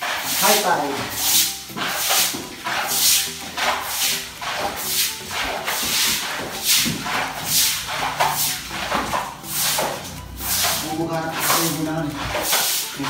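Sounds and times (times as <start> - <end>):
scrubbing wet concrete floor: 0.0 - 13.0.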